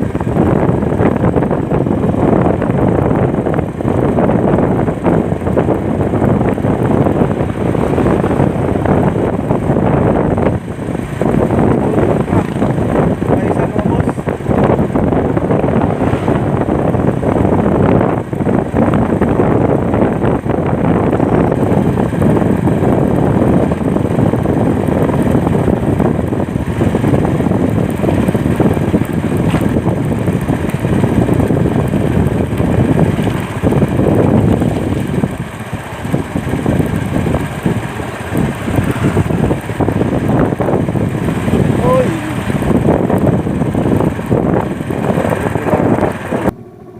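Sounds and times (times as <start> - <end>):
road noise: 0.0 - 46.9
vehicle engine: 0.0 - 46.9
wind buffeting microphone: 0.0 - 46.9.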